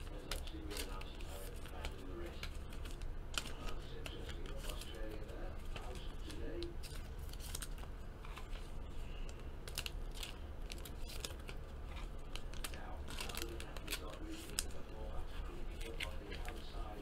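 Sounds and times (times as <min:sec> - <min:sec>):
steady low hum: 0:00.0 - 0:17.0
trading cards rustling: 0:00.0 - 0:17.0.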